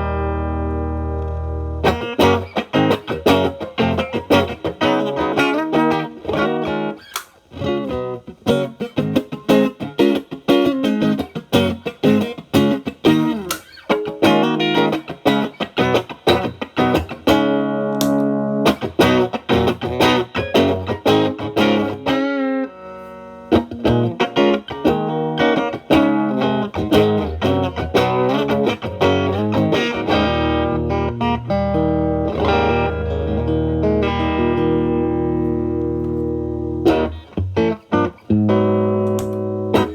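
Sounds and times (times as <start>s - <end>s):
distorted electric guitar chords: 0.0s - 7.0s, 7.6s - 39.9s
electric guitar blues licks: 0.0s - 39.9s.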